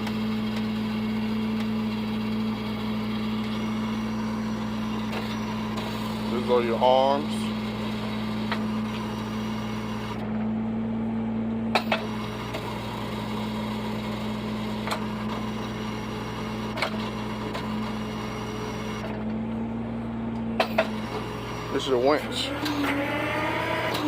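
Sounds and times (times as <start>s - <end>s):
truck engine idling: 0.0s - 10.8s, 11.4s - 24.0s.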